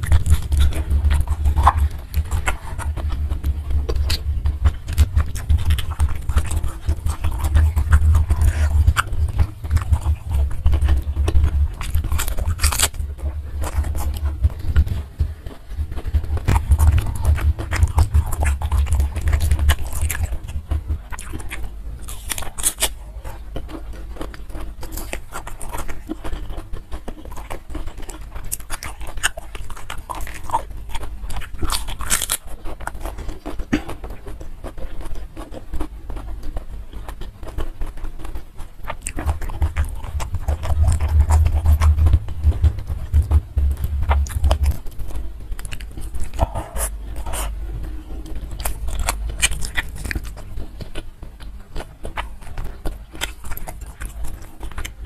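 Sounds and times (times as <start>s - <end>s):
person chewing crunchy vegetables: 0.0s - 55.0s.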